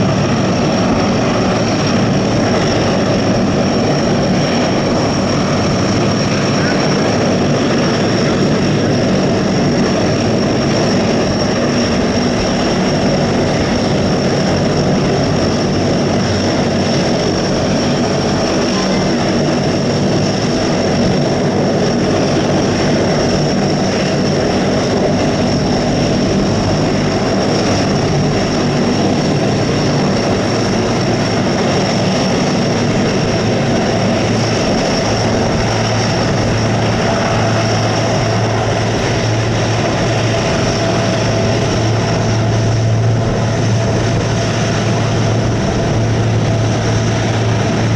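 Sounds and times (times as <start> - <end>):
aircraft engine hum and whine: 0.0 - 47.9.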